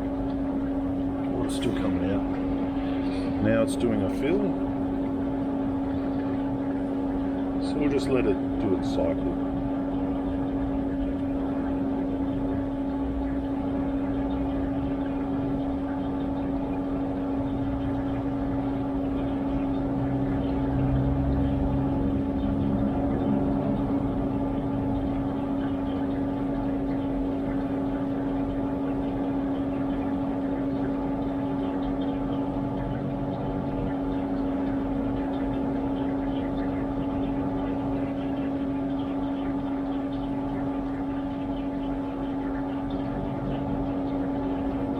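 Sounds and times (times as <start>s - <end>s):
dishwasher pump motor hum: 0.0s - 44.9s
water noise inside machine: 0.0s - 44.9s.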